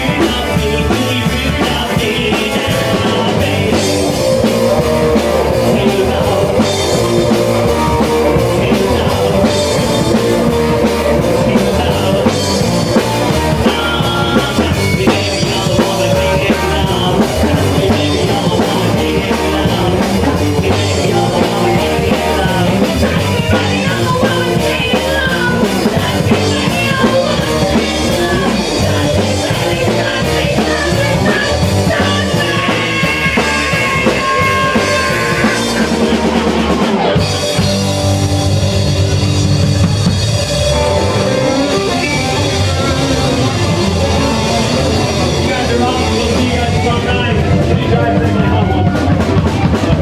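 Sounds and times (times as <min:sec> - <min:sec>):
rock band playing: 0:00.0 - 0:50.0.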